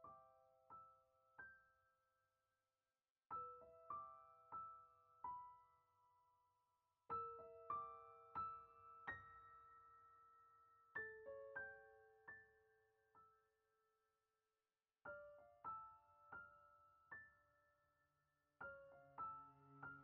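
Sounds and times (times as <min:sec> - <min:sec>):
soft piano music: 0:00.0 - 0:02.1, 0:03.3 - 0:13.9, 0:15.0 - 0:18.0, 0:18.6 - 0:20.0.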